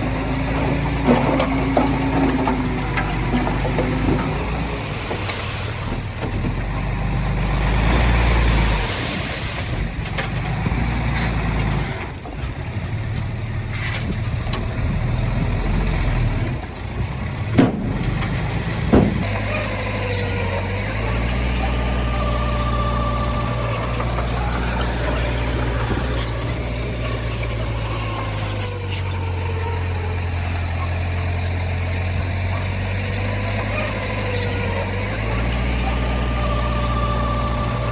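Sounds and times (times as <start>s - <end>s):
heavy diesel machinery rumbling: 0.0s - 37.9s.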